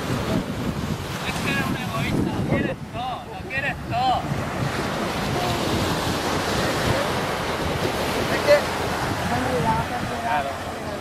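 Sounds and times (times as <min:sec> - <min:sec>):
waves breaking on beach: 0:00.0 - 0:11.0
wind buffeting microphone: 0:00.0 - 0:11.0.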